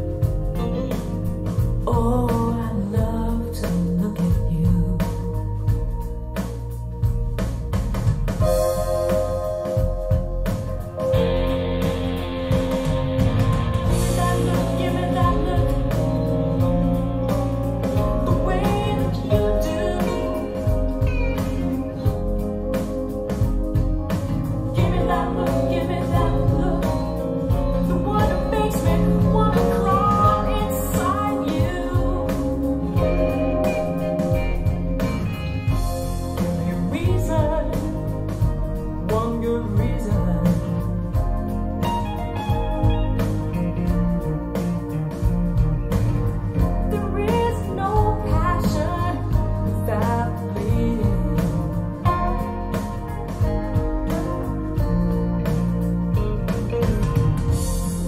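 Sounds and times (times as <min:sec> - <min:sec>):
rock music with singing: 0:00.0 - 0:58.0.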